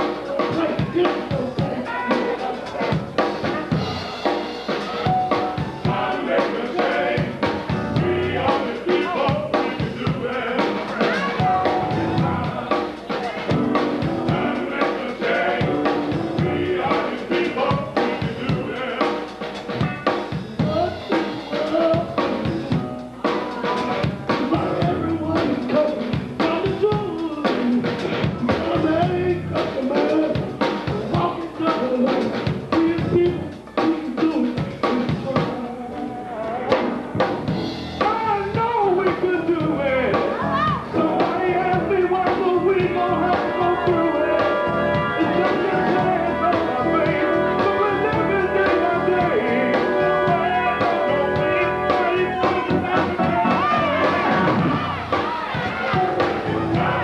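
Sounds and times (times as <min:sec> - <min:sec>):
drum kit playing: 0:00.0 - 0:57.0
men singing gospel: 0:00.0 - 0:57.0.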